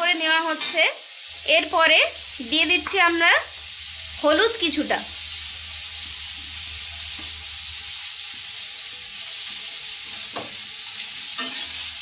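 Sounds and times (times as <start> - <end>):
fruit pieces sizzling in hot oil: 0.0 - 12.0.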